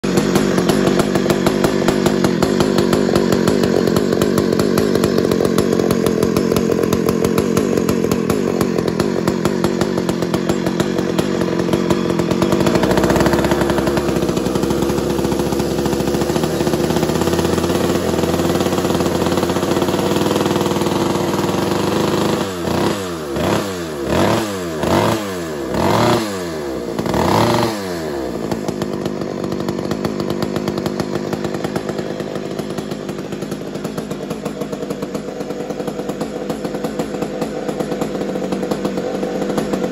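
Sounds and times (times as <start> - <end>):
chainsaw engine running: 0.0 - 39.9
engine revving: 0.0 - 39.9.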